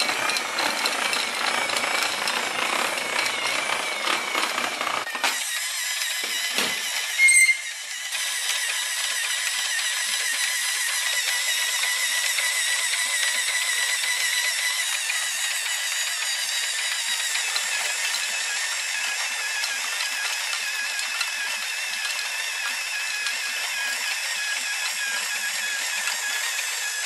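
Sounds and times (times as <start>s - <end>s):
toy electric motor whining: 0.0s - 27.0s.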